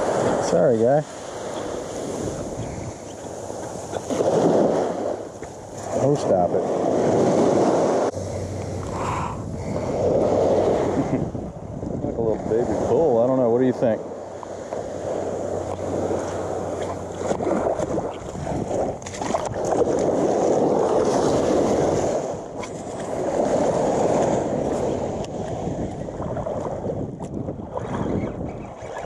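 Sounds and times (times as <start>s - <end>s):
surf waves washing on beach: 0.0s - 29.0s
wind buffeting microphone: 0.0s - 29.0s.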